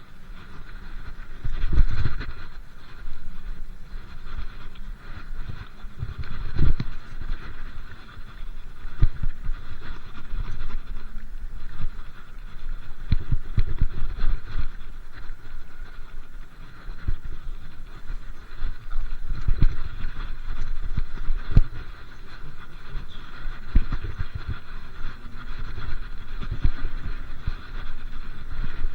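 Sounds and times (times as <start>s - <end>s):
steady rolling noise: 0.0s - 28.9s
wind buffeting microphone: 0.0s - 28.9s.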